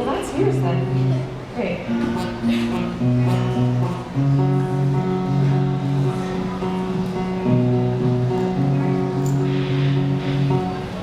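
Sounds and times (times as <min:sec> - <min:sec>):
acoustic guitar strumming chords: 0:00.1 - 0:11.0.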